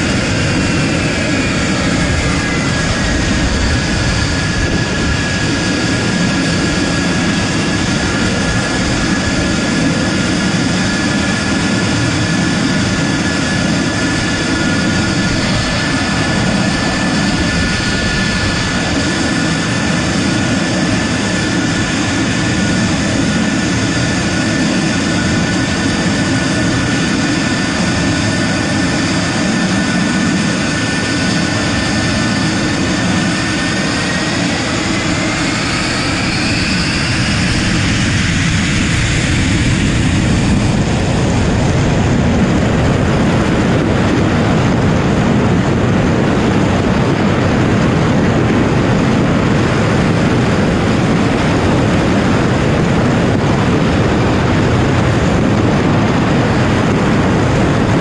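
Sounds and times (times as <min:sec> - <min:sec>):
jet engine rushing roar: 0:00.0 - 0:58.0
jet turbine whine: 0:00.0 - 0:58.0.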